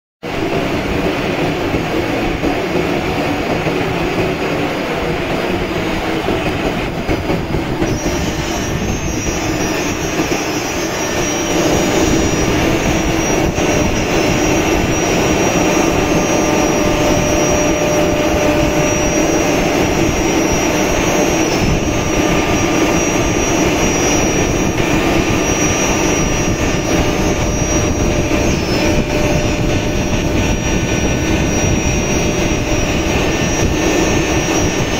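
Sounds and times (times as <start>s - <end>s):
high machine whine: 0.2s - 34.9s.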